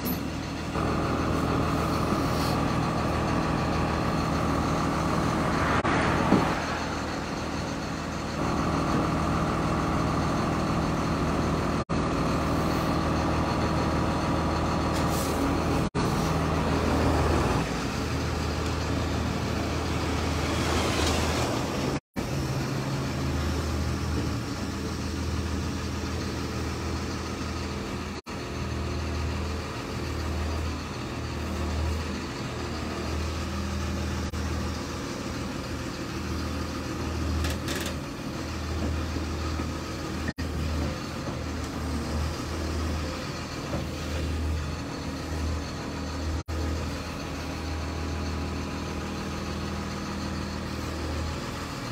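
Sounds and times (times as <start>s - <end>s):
diesel engine humming: 0.0s - 51.9s.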